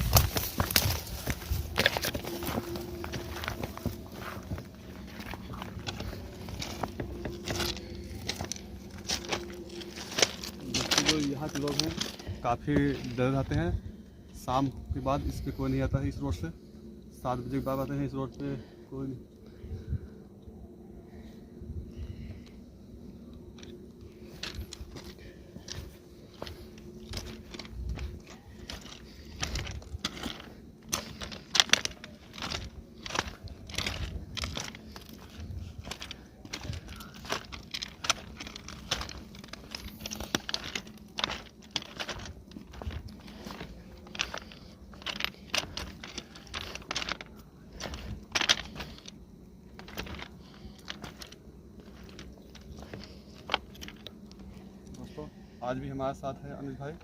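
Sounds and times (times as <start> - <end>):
footsteps crunching: 0.0 - 15.7, 23.6 - 55.5.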